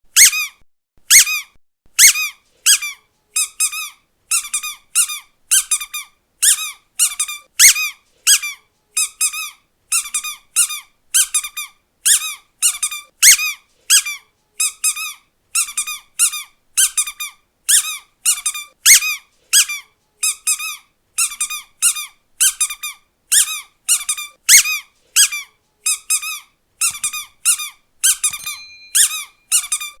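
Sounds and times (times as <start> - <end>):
squeaky dog toy squeaks: 0.1 - 30.0.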